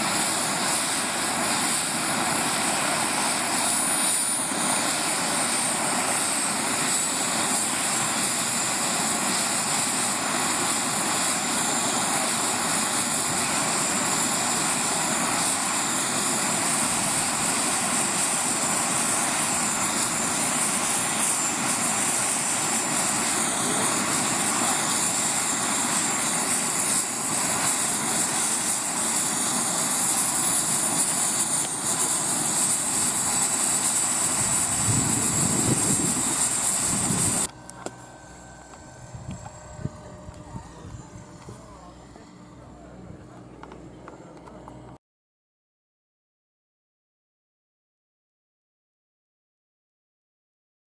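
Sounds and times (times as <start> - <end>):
model helicopter flying: 0.0 - 45.0.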